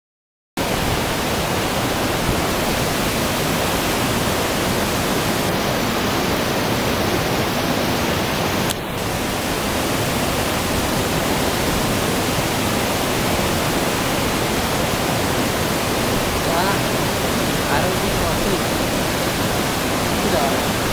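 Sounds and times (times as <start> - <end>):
waterfall rushing over rock: 0.6 - 20.9.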